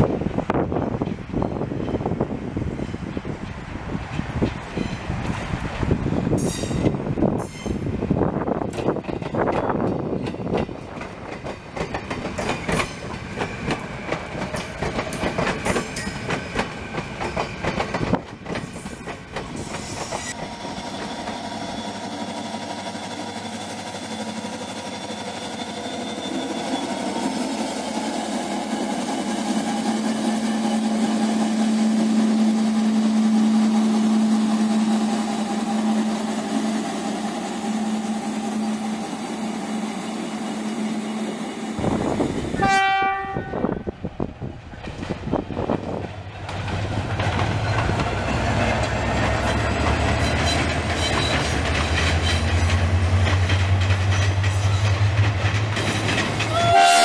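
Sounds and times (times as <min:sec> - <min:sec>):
train wheels clicking on rail joints: 0:00.2 - 0:42.6, 0:44.1 - 0:56.9
diesel locomotive droning: 0:09.4 - 0:57.0.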